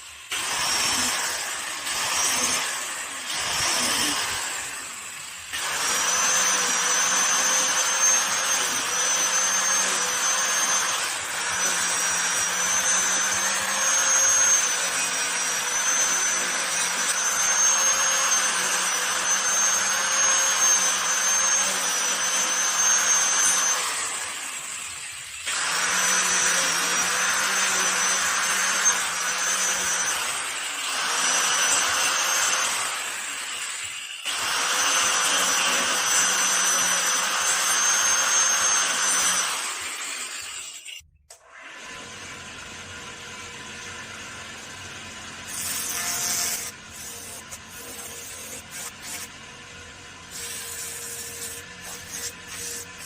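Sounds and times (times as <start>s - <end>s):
power tool cutting wood: 0.0s - 53.0s.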